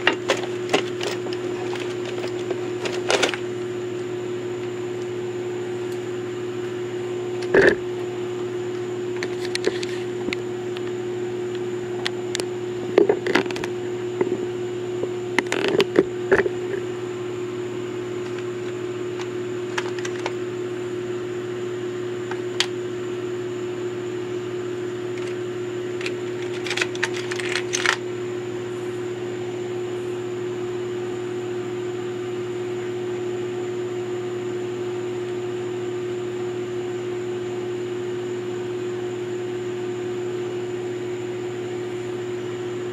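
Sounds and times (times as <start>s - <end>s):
electrical hum: 0.0s - 42.9s.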